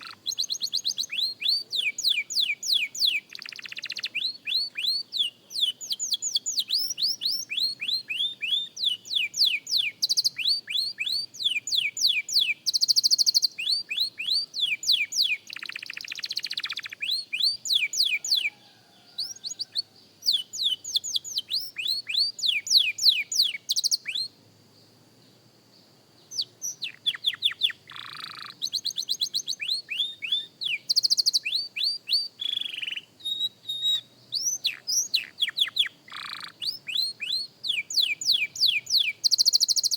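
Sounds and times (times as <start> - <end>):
canary singing whistles and trills: 0.0 - 24.4, 26.2 - 39.9.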